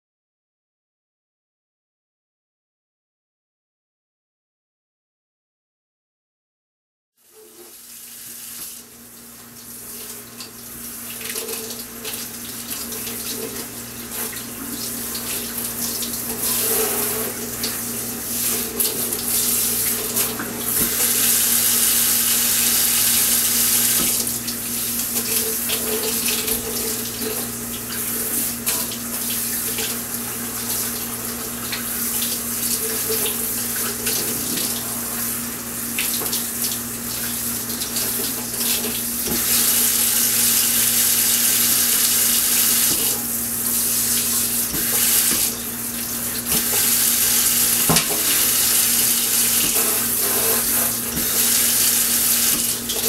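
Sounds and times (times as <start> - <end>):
faucet running into sink: 7.3 - 53.0.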